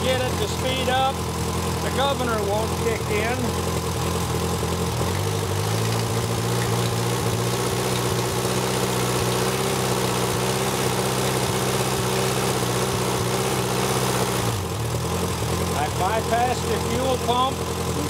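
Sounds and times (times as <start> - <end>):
engine running at low speed: 0.0 - 18.0.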